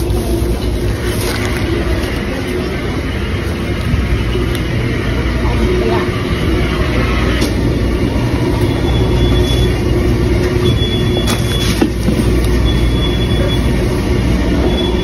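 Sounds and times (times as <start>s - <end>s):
moving train rumble: 0.0s - 15.0s
thin high whine: 0.0s - 15.0s.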